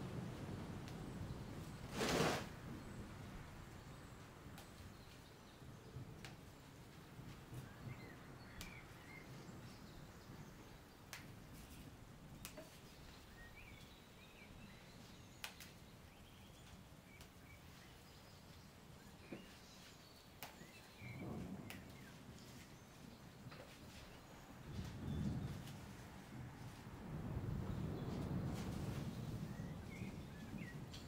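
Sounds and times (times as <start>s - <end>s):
faint background hiss: 0.0s - 31.0s.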